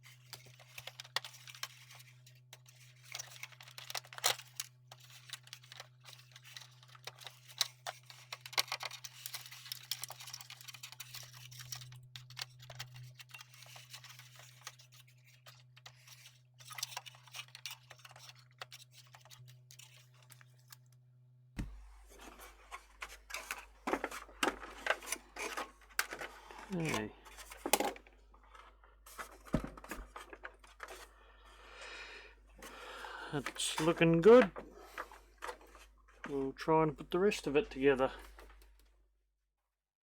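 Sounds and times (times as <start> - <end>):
plastic parts clicking and scraping: 0.0 - 21.0, 21.6 - 31.1, 32.6 - 38.9.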